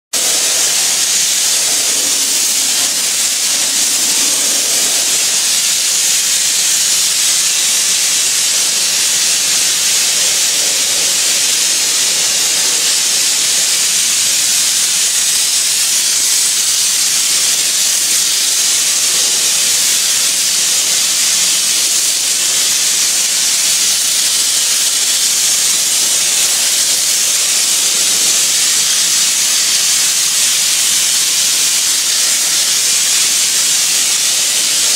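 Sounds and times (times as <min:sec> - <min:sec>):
flame spray gun hissing: 0:00.2 - 0:34.9.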